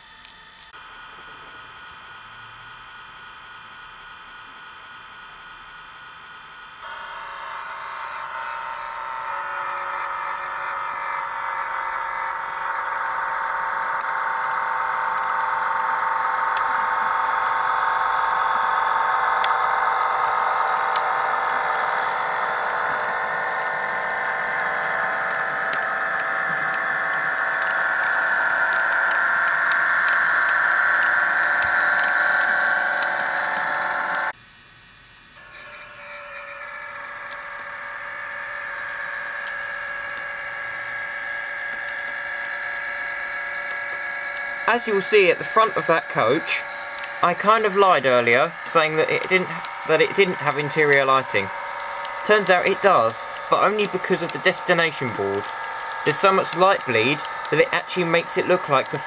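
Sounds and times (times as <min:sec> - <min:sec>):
model train motor hum: 0:00.0 - 0:59.0.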